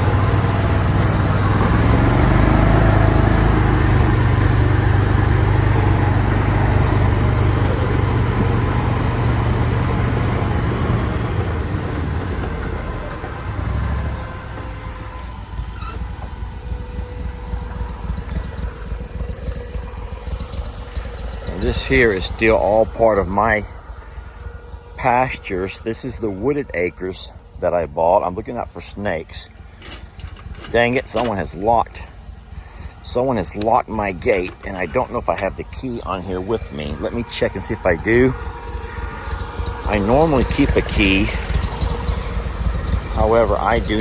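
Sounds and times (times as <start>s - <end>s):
amphibious vehicle engine running: 0.0s - 44.0s.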